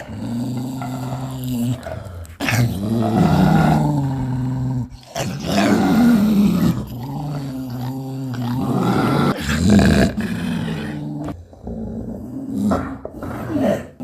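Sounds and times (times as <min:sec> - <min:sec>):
dog growling: 0:00.0 - 0:14.0.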